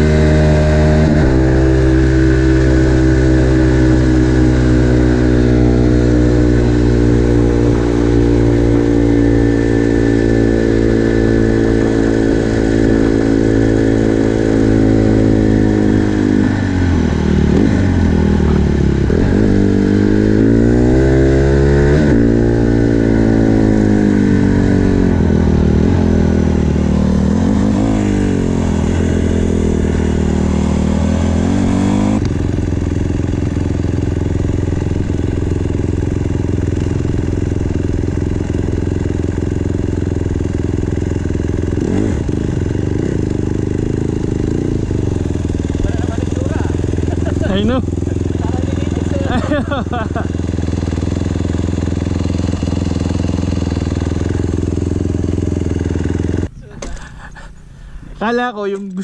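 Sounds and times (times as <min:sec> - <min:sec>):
dirt bike engine revving: 0:00.0 - 0:57.3.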